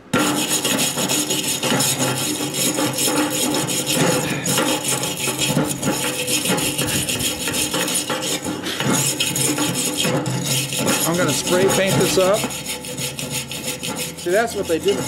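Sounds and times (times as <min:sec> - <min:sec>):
wire brush scratching metal: 0:00.0 - 0:15.0.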